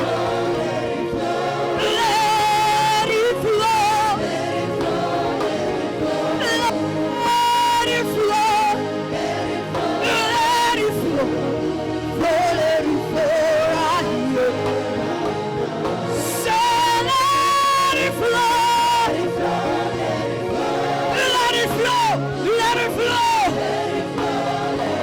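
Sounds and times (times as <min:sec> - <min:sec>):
gospel band playing: 0:00.0 - 0:25.0.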